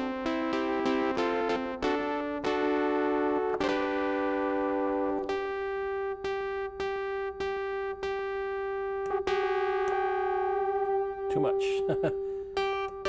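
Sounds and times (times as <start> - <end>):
analog synthesizer with delay: 0.0 - 13.0.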